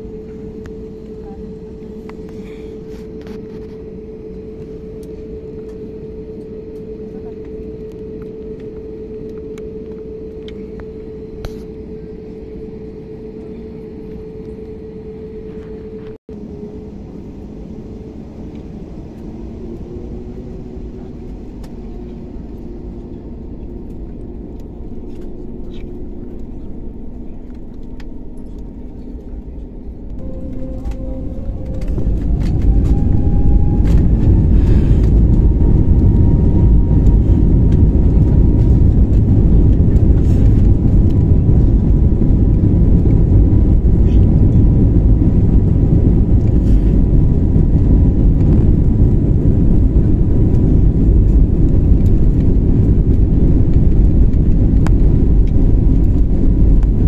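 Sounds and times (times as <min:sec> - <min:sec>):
deep rumble of takeoff roll: 0:00.0 - 0:57.0
jet engine whine: 0:00.0 - 0:57.0.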